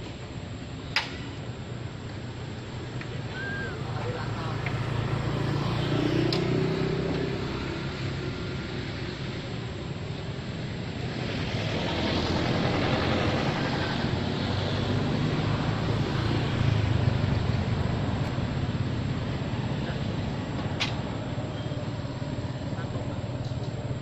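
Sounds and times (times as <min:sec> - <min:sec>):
low engine rumble with hiss: 0:00.0 - 0:24.0.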